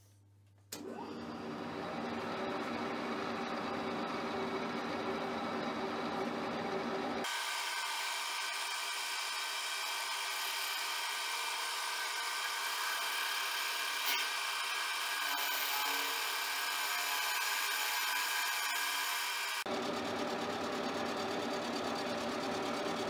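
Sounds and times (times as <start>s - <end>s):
milling cutter whining: 0.8s - 19.7s.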